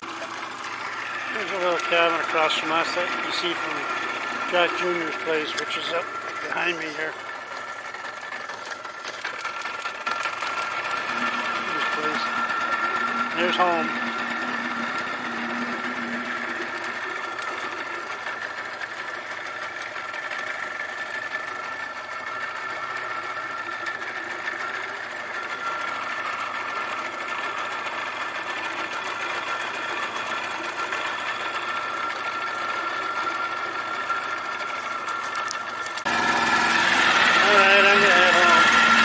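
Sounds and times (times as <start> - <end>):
outboard motor humming drone: 0.0 - 39.0.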